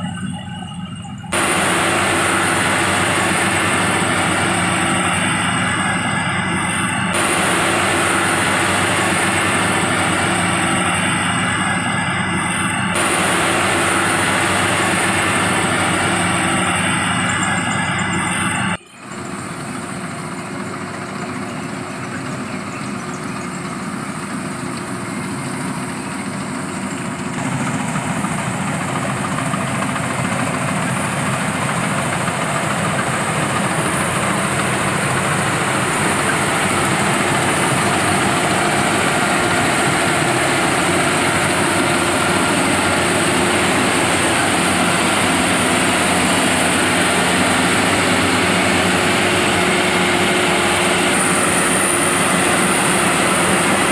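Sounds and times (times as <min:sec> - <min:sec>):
harvesting machine engine running: 0:00.0 - 0:53.9.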